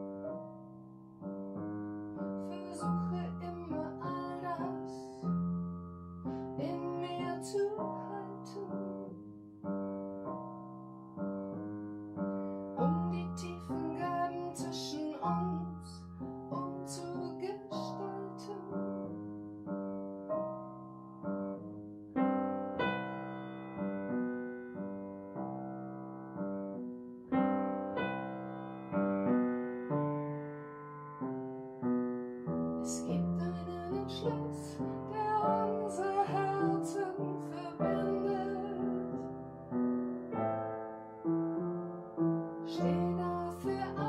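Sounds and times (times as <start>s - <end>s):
slow piano solo: 0.0s - 44.0s.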